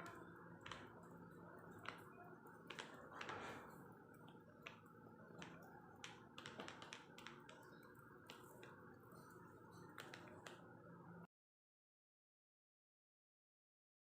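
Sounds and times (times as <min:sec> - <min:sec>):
low steady hum: 0:00.0 - 0:11.3.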